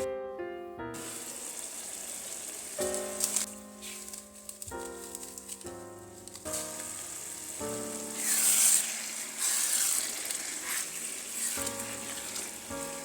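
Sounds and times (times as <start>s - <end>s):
background music: 0.0s - 13.0s
food sizzling in a pan: 1.0s - 13.0s.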